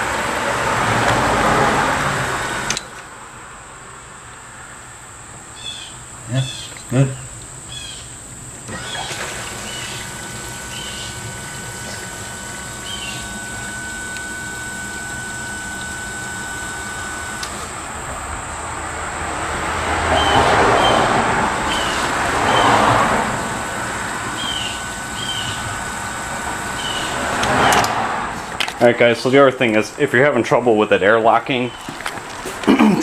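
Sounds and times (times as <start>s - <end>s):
electric pump whine: 0.0s - 33.0s.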